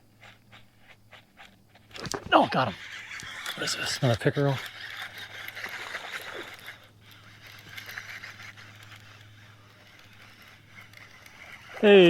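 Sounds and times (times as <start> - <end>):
electric trolling motor humming: 0.0 - 12.0
splashing and scraping: 1.8 - 12.0.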